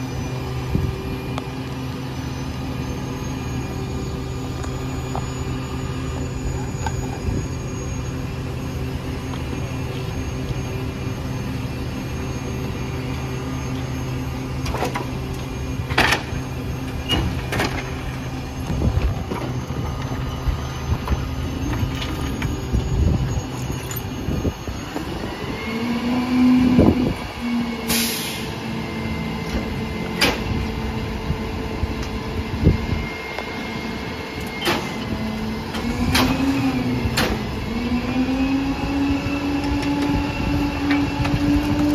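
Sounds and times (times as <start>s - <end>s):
hydraulic packer whining hum: 0.0s - 41.9s.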